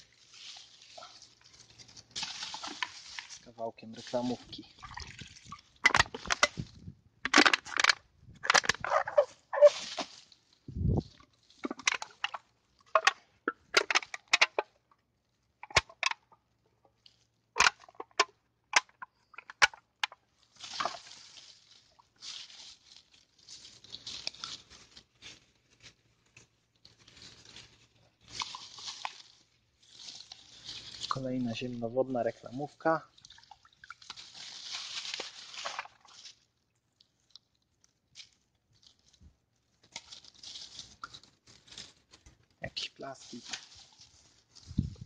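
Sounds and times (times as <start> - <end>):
plastic bottle crackling and popping: 0.0 - 31.3, 33.0 - 45.0
soft plastic rustling: 0.0 - 45.0.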